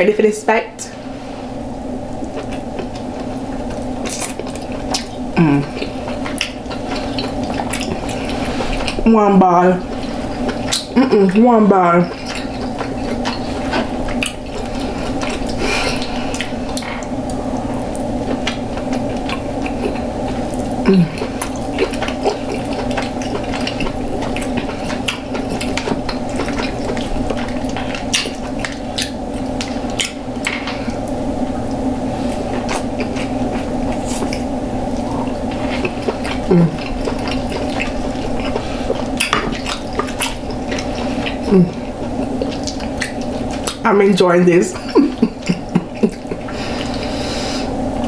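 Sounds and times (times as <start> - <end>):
low background hum: 0.0 - 48.0
wet chewing and smacking: 2.1 - 43.9, 44.7 - 47.1.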